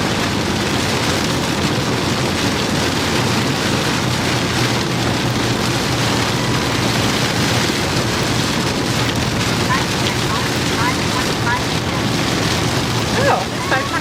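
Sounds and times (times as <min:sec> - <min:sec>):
heavy rain on vehicle: 0:00.0 - 0:14.0
road and engine hum: 0:00.0 - 0:14.0.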